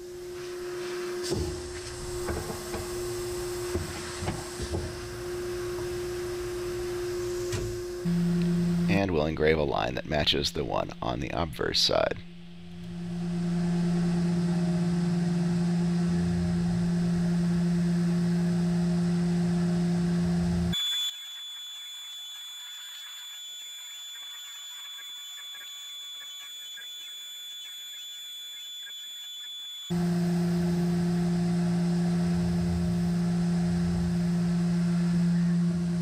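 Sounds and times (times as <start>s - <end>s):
high-pitched whine: 0.0s - 36.0s
milling machine humming: 0.0s - 36.0s.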